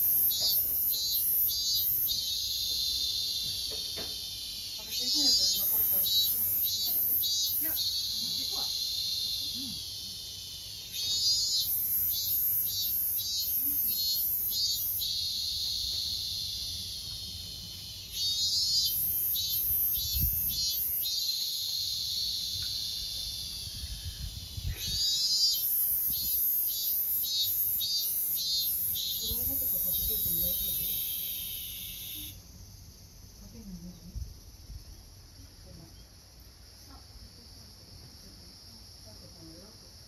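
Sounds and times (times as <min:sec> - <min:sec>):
insect song pulsing and buzzing: 0:00.0 - 0:40.0.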